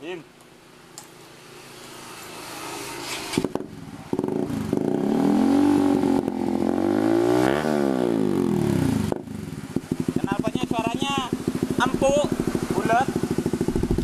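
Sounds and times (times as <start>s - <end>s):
motorcycle engine revving: 1.1s - 14.0s.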